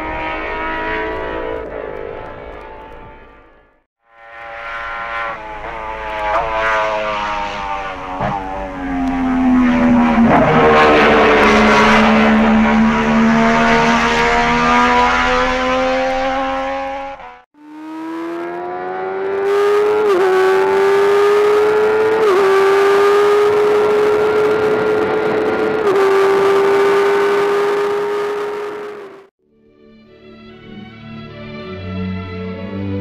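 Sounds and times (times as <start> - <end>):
racing motorcycle engine accelerating: 0.0 - 29.3.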